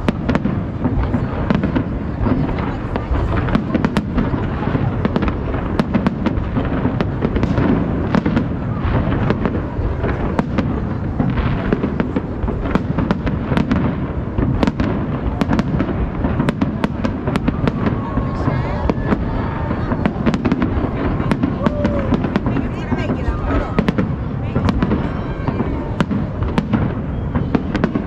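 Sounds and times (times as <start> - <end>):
fireworks bursting and crackling: 0.0 - 28.0.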